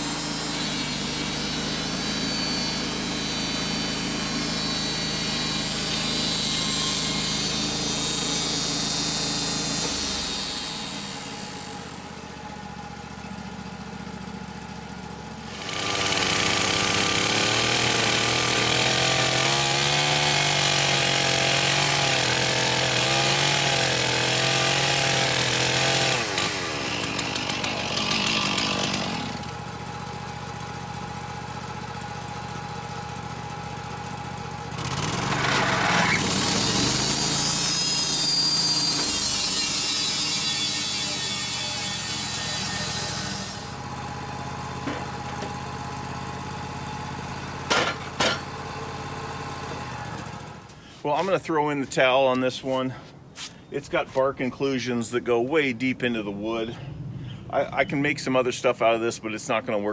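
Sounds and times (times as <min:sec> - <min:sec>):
band sawmill cutting log: 0:00.0 - 0:56.7.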